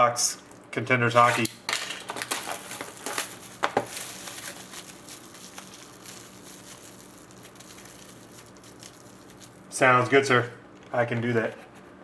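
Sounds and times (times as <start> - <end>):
packaging crinkling and rustling: 1.1 - 11.6.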